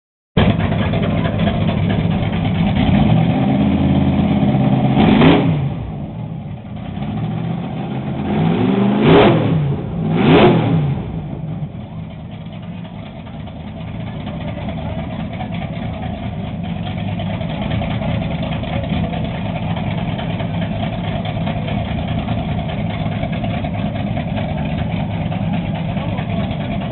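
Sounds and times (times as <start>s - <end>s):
drag engine revving: 0.4s - 26.9s.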